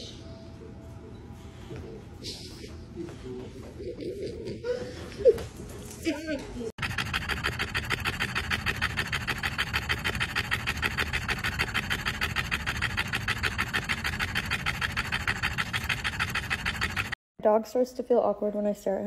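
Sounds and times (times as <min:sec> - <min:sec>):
dog panting: 0:01.6 - 0:17.2.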